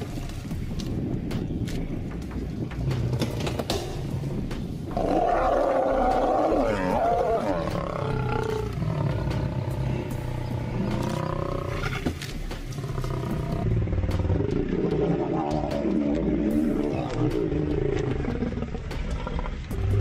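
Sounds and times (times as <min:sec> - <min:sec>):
lions growling and snarling: 0:02.4 - 0:20.0.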